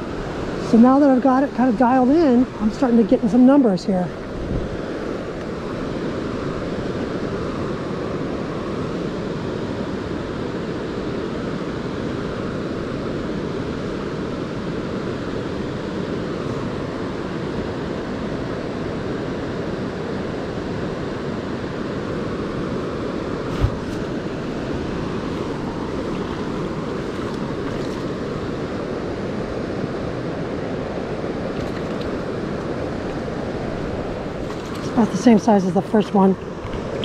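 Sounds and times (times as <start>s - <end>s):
river current rushing: 0.0s - 37.0s.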